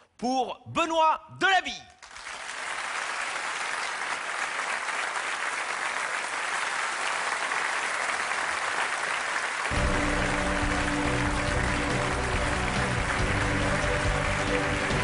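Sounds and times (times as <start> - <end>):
audience applauding: 2.0 - 15.0.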